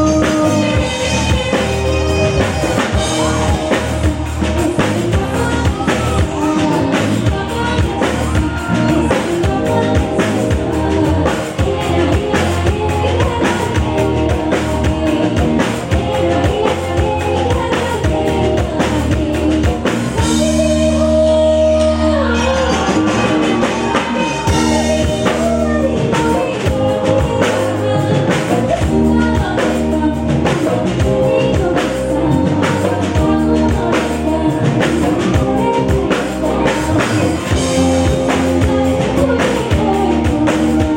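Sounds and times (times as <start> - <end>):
drum kit beat: 0.0 - 40.9
live band music: 0.0 - 40.9
person singing: 0.0 - 40.9.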